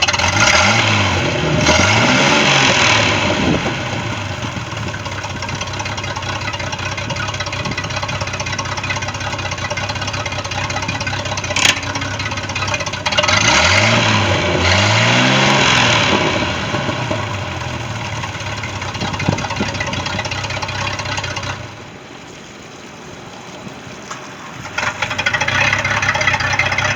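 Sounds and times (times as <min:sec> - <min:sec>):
boat engine idling: 0:00.0 - 0:26.9
engine throttle blips: 0:00.0 - 0:26.9.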